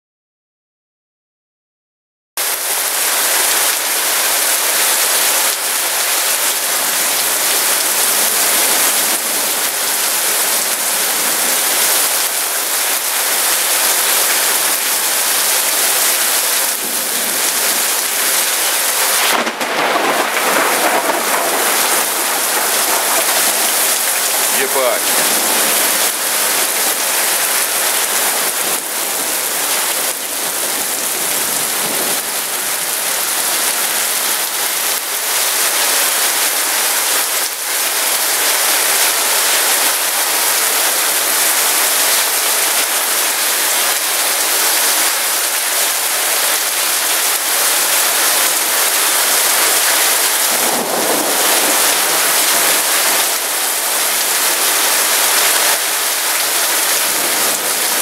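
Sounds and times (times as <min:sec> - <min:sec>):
heavy rain pouring: 0:02.4 - 0:58.0.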